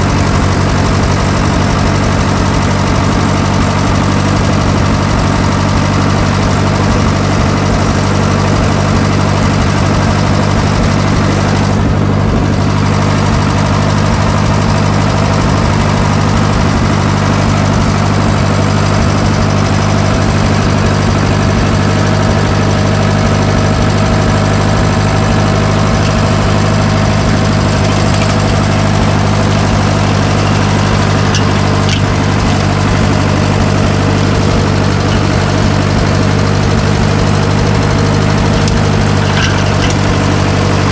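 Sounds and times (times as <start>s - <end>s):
stump grinder engine running: 0.0s - 40.9s.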